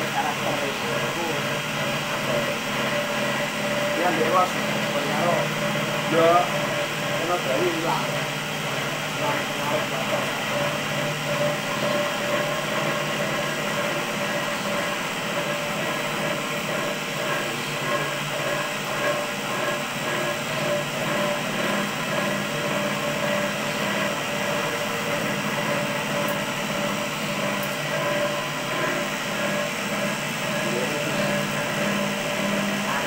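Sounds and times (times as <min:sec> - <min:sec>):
cotton candy machine motor humming: 0:00.0 - 0:33.0.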